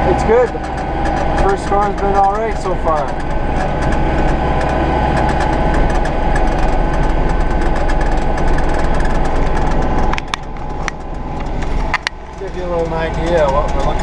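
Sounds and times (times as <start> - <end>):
short clicks and rattles: 0.0 - 14.0
tractor diesel engine running: 0.0 - 14.0.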